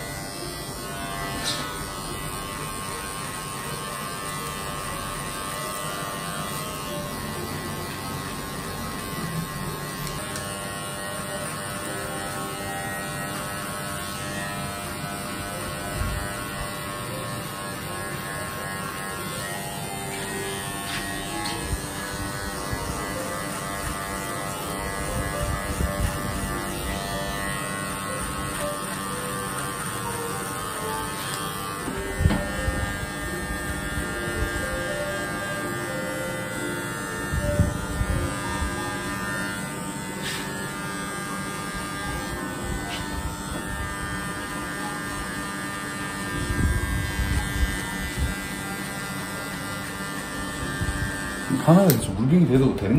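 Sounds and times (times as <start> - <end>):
hair clipper buzzing: 0.0 - 52.9.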